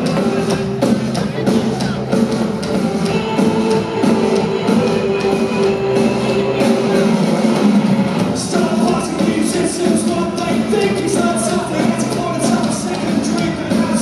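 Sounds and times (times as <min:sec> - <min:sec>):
bass guitar: 0:00.0 - 0:14.0
electric guitars: 0:00.0 - 0:14.0.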